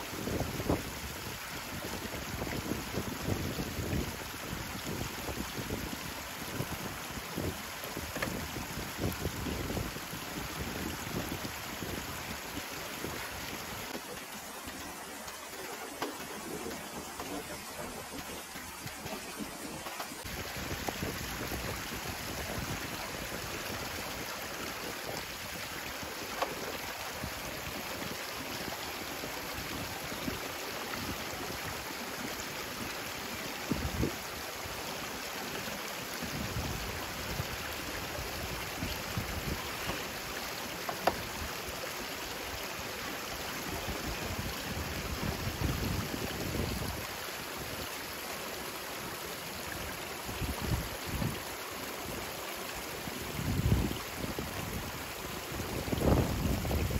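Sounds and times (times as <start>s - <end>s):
creek running over stones: 0.0s - 56.9s.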